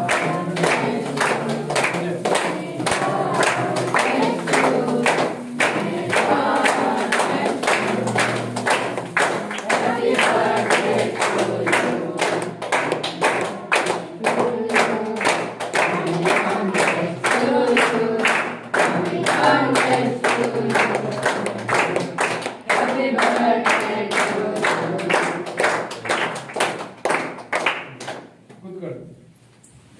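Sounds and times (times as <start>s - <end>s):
group singing a celebration song: 0.0s - 27.8s
people clapping along: 0.0s - 28.6s.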